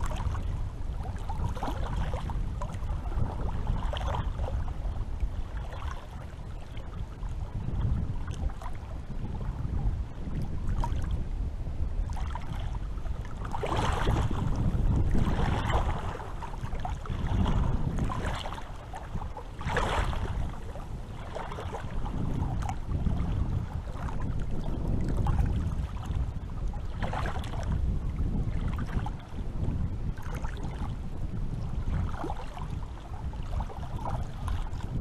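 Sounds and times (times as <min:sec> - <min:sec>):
low rumble of wind: 0:00.0 - 0:35.0
sea waves lapping and splashing: 0:00.0 - 0:35.0.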